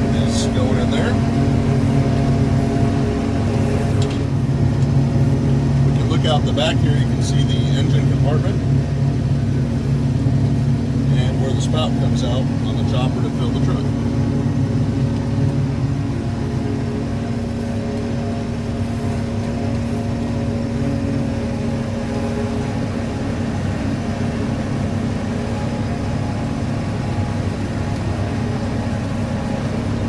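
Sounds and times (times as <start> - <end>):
harvester engine and machinery drone: 0.0 - 30.0.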